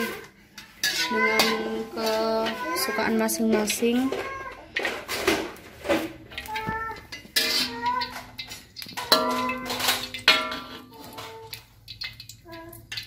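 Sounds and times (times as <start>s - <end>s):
metal spatula scraping wok: 0.0s - 12.2s.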